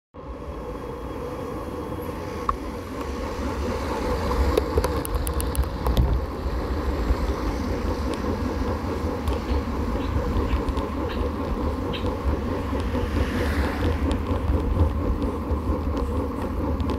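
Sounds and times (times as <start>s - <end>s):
bicycle tyre and road noise: 0.2s - 16.9s
wind rumble on microphone: 2.0s - 16.9s.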